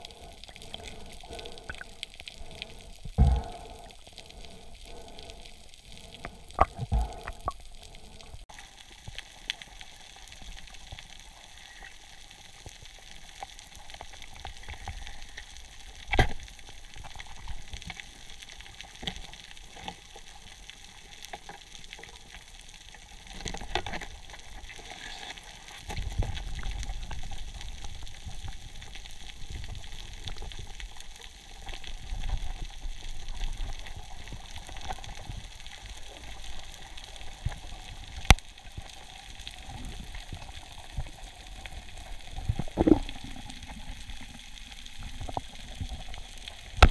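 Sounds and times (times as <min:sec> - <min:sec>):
crackle of tiny clicks underwater: 0:00.0 - 0:46.9.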